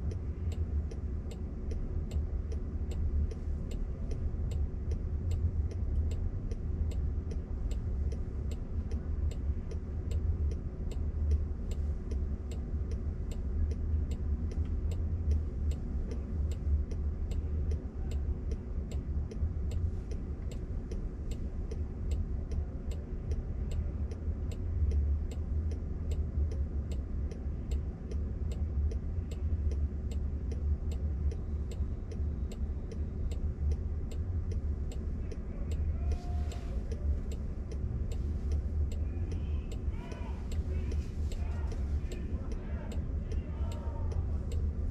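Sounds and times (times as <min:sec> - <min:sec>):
low cabin rumble: 0:00.0 - 0:44.9
turn signal ticking: 0:00.0 - 0:44.9.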